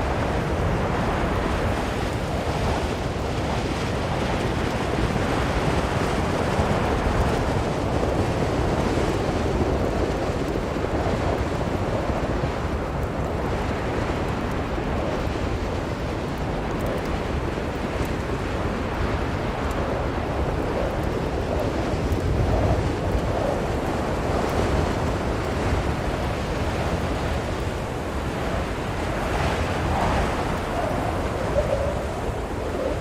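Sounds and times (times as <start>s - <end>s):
blizzard wind blowing: 0.0s - 33.0s.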